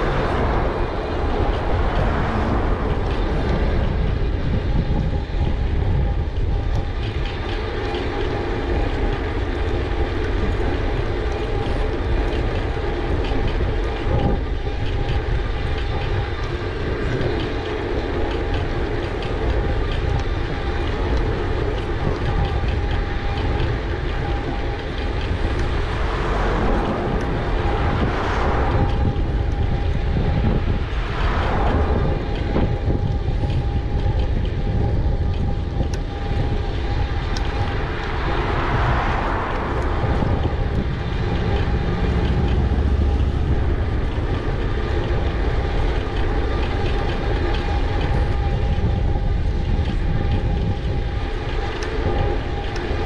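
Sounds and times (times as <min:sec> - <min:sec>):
wind rumble and road noise: 0:00.0 - 0:53.0.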